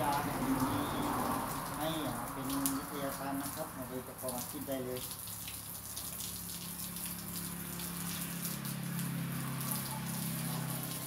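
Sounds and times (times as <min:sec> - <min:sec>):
water spraying from a hose: 0:00.0 - 0:11.0.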